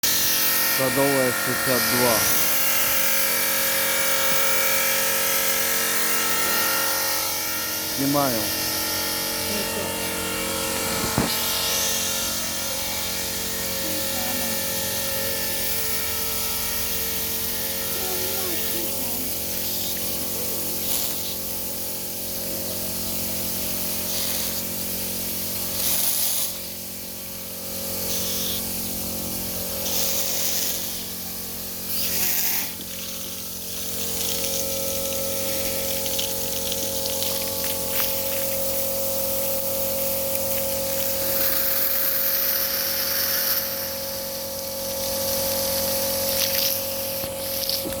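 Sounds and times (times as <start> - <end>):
pump humming: 0.0 - 48.0.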